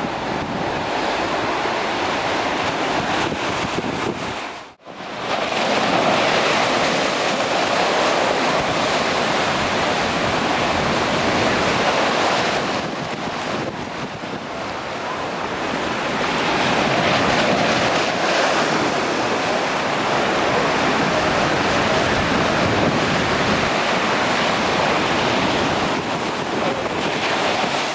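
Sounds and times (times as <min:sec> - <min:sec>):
surf crashing over seawall: 0:00.0 - 0:27.9
wind buffeting microphone: 0:00.0 - 0:27.9.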